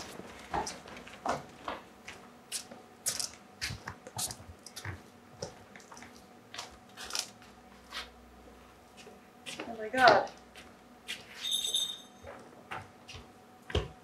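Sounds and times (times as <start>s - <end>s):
footsteps in sneakers on stage: 0.0s - 8.1s, 8.9s - 11.4s, 12.2s - 14.0s.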